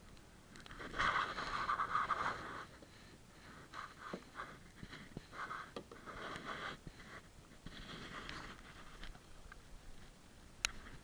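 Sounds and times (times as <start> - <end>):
clothing rustling against microphone: 0.7 - 11.0.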